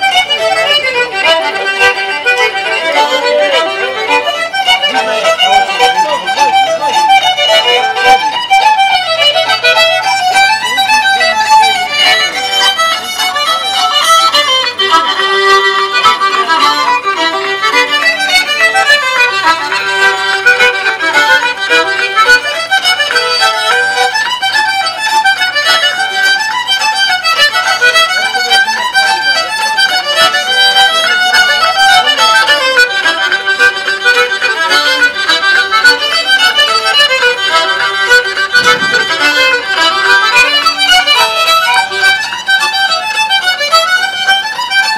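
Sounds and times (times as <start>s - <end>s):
fiddle music: 0.0s - 44.9s.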